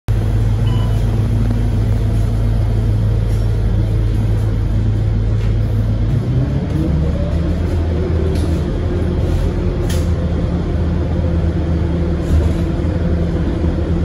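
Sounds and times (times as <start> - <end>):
bus diesel engine humming: 0.1 - 14.0.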